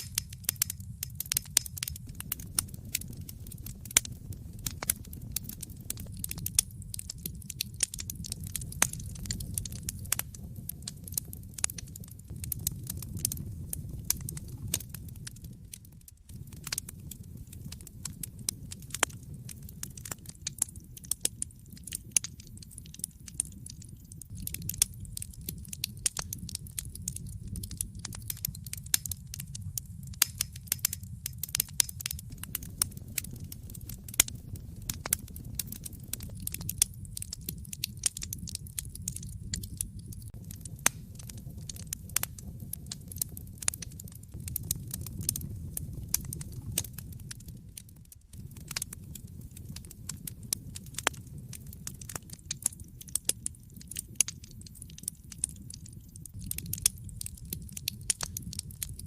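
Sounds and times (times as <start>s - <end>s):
low rumble of flames: 0.0s - 59.0s
wood fire crackles and pops: 0.0s - 59.0s.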